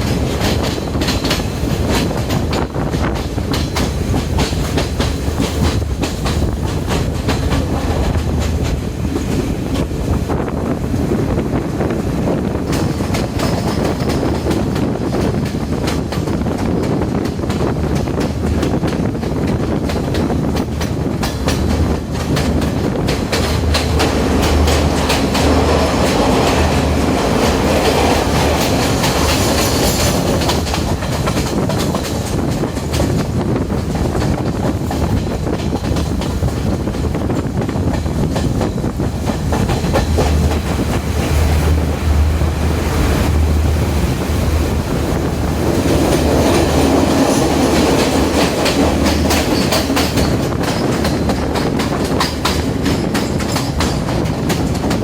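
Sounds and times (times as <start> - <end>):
train wheels clicking over rail joints: 0.0 - 42.0, 44.0 - 55.0
low train rumble: 0.0 - 55.0.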